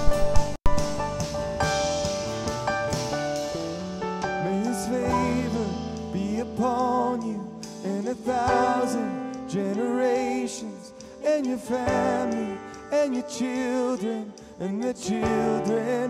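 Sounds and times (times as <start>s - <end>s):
worship band playing slow song: 0.8s - 16.0s.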